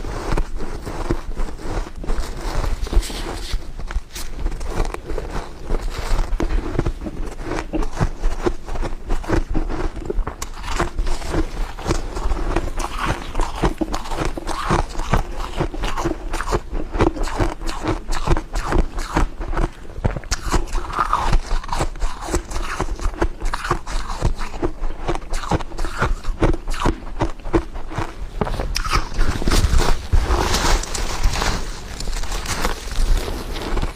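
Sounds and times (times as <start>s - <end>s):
chewing crunchy ice: 0.0s - 33.9s.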